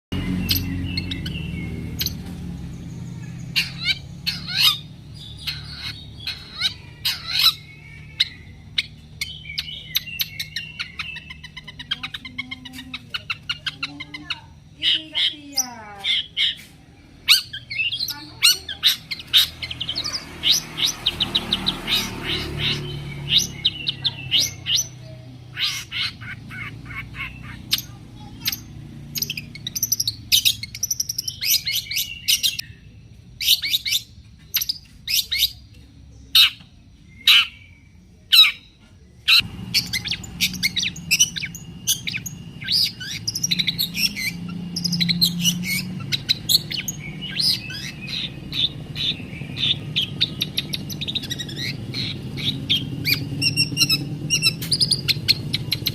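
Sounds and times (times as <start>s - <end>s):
shrike singing: 0.1s - 55.9s.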